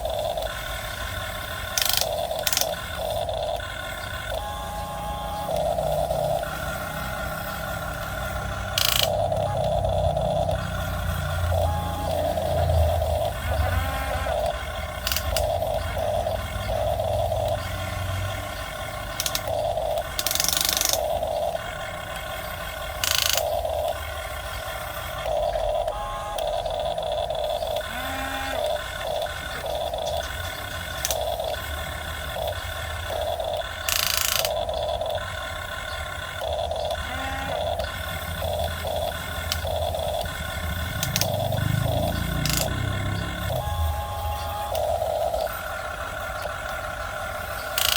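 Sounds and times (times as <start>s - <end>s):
hydraulic pump whining: 0.0s - 47.9s.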